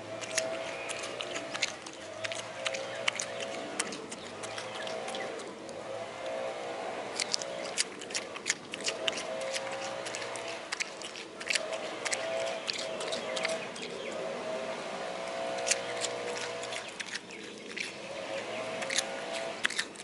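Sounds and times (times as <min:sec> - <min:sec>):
faint steady hum: 0:00.0 - 0:20.0
small birds chirping: 0:00.0 - 0:20.0.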